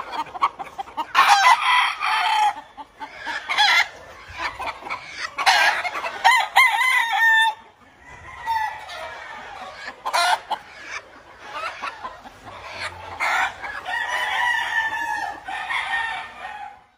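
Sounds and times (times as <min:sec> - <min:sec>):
roosters crowing: 0:00.0 - 0:16.9.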